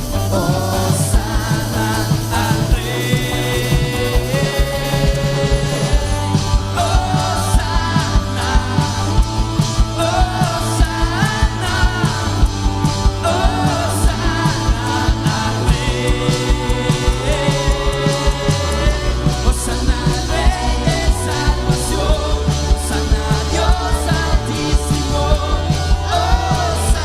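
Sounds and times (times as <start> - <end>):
rock worship band music: 0.0 - 27.0.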